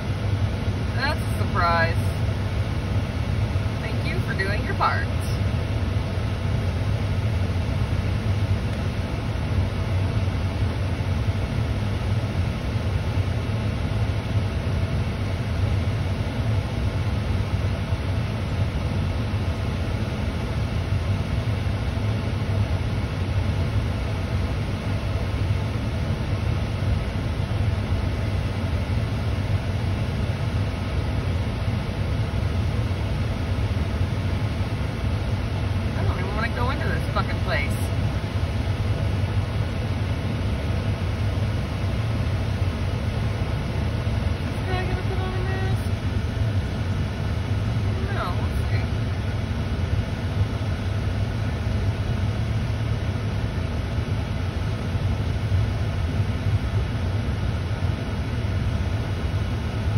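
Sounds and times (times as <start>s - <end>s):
car idling heard from cabin: 0.0s - 59.9s.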